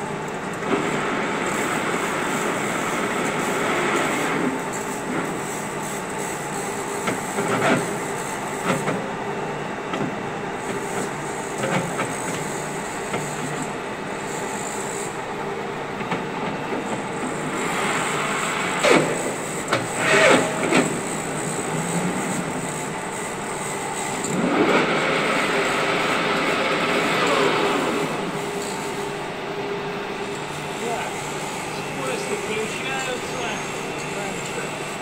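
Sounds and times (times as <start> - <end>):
lathe drive running: 0.0 - 35.0.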